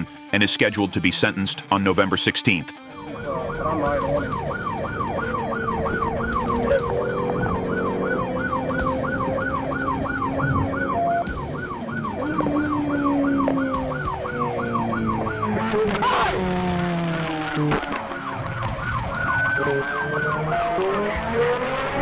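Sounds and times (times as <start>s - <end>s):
police siren yelping: 2.8s - 22.0s
car driving noise: 3.0s - 22.0s.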